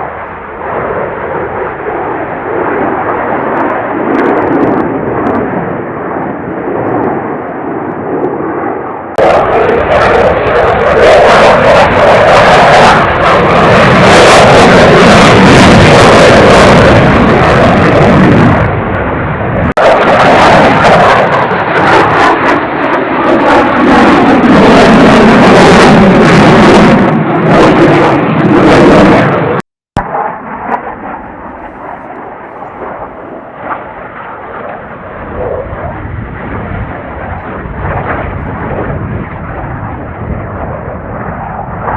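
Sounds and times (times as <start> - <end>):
jets roaring past: 0.0 - 41.9.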